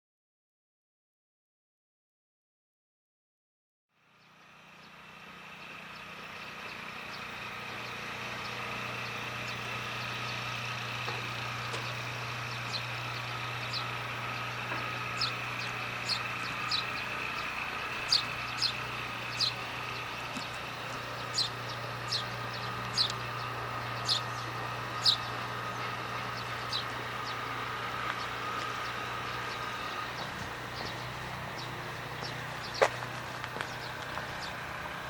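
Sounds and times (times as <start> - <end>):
low hum of vehicles: 3.9 - 35.0
bird chirping: 5.6 - 34.9.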